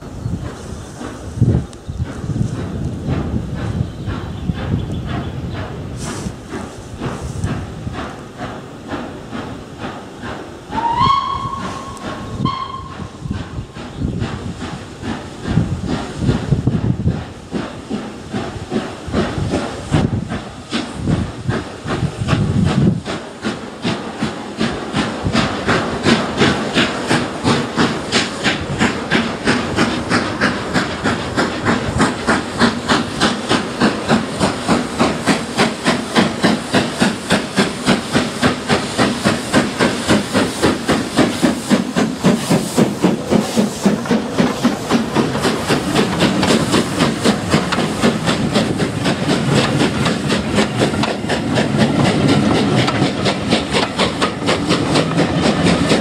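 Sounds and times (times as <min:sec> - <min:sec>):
steam locomotive exhaust beating: 0:00.0 - 0:56.0.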